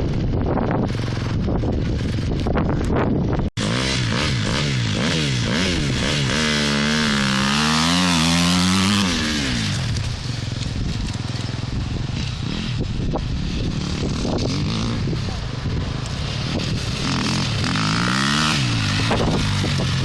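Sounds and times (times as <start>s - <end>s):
motocross bike engines revving: 3.6s - 20.0s.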